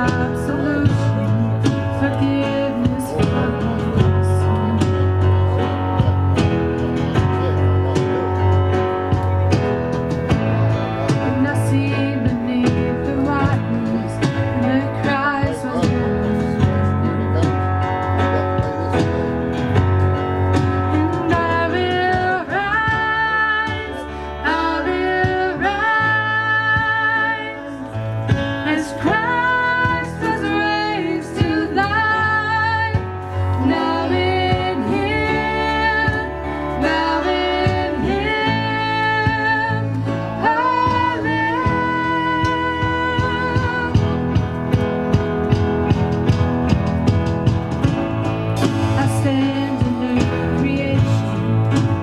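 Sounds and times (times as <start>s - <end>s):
person singing: 0.0s - 6.3s, 10.7s - 19.0s, 20.6s - 44.6s, 48.7s - 52.0s
bass line: 0.0s - 52.0s
guitar: 0.0s - 52.0s.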